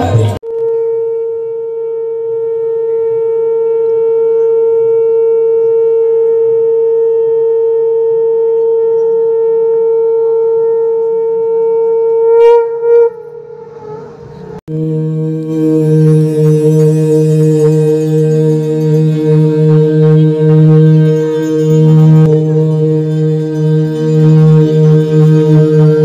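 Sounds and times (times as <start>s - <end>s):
conch shell blown: 0.0s - 26.0s.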